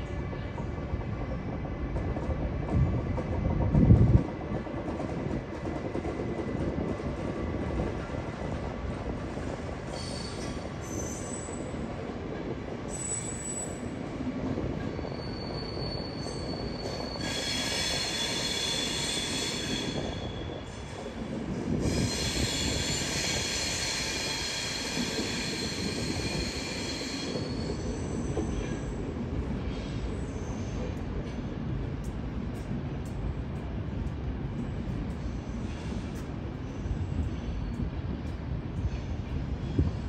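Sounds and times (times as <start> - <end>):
train wheels squealing on rails: 0.0 - 1.6, 2.2 - 40.0
passing train rumble: 0.0 - 40.0.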